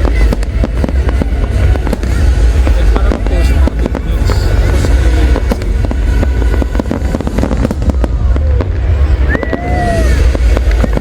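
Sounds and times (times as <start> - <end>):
deep rumble: 0.0 - 11.0
fireworks bangs and crackles: 0.0 - 11.0
whistling firework: 0.0 - 11.0.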